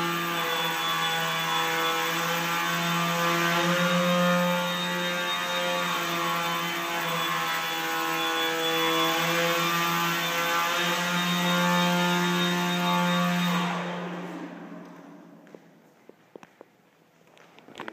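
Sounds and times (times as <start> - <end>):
drone rotor humming: 0.0 - 15.4.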